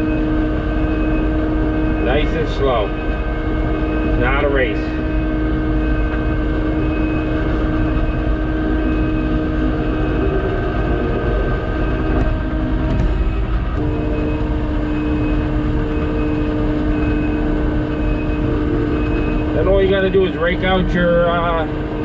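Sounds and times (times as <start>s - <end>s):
faint high beep: 0.0s - 21.6s
diesel engine running under load: 0.0s - 22.0s.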